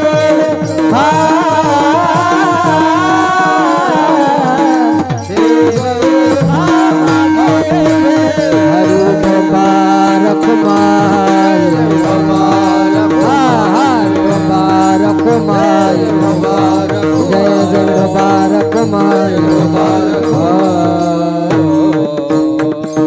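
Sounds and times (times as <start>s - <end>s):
hand drum beating: 0.0s - 23.0s
harmonium drone: 0.0s - 23.0s
person singing devotional song: 0.0s - 23.0s.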